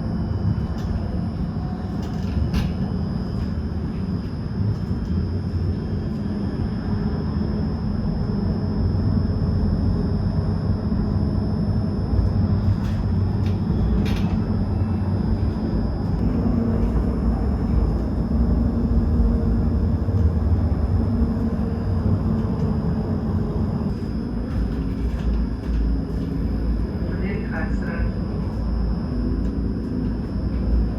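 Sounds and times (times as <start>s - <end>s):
tram rumbling: 0.0s - 30.9s.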